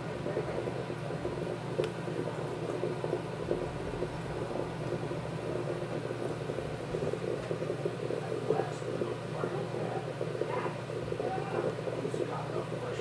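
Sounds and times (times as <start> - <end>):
stove flames rushing: 0.0 - 13.0
water bubbling: 0.0 - 13.0.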